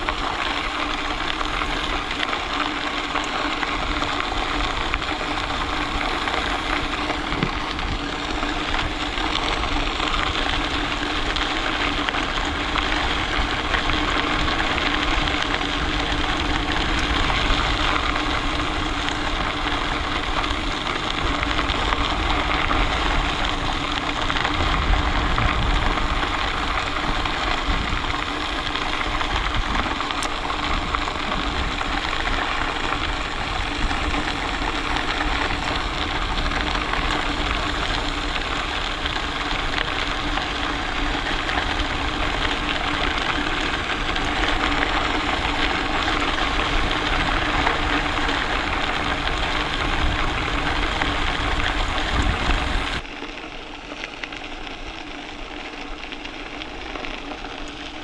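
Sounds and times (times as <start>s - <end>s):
rushing bicycle ride noise: 0.0s - 58.0s.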